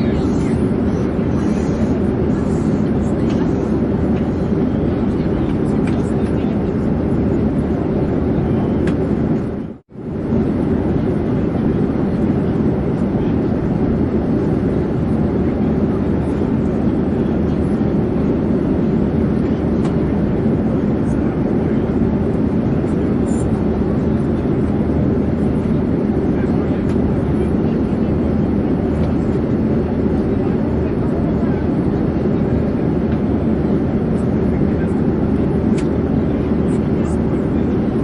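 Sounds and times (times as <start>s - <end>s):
airplane engine rush: 0.0s - 38.0s.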